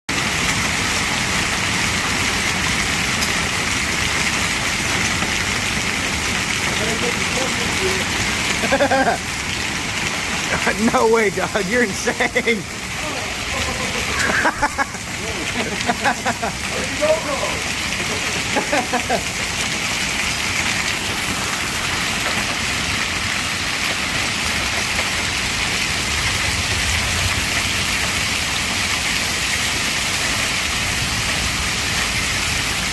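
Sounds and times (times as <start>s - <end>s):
hail clattering: 0.1s - 32.9s.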